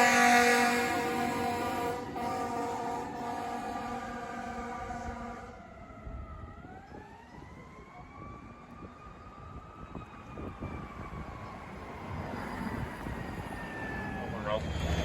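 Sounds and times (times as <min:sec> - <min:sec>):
fire truck siren: 0:00.0 - 0:15.0.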